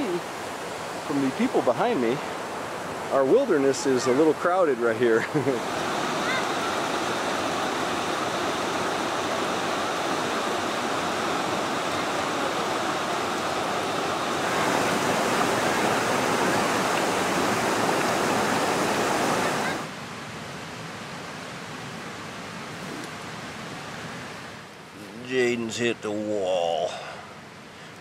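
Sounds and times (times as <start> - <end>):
creek water flowing: 0.0 - 28.0.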